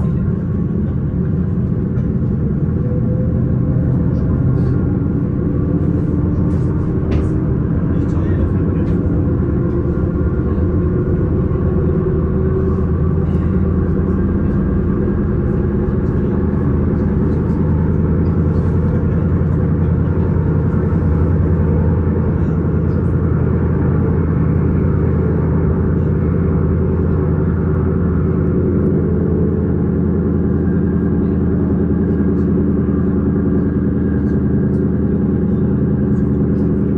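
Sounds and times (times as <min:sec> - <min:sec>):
electric train rumbling: 0:00.0 - 0:36.9.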